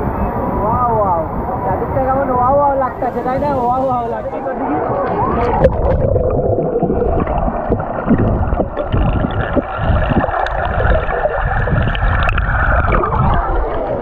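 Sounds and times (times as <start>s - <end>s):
pool water sloshing and gurgling: 2.0s - 14.0s.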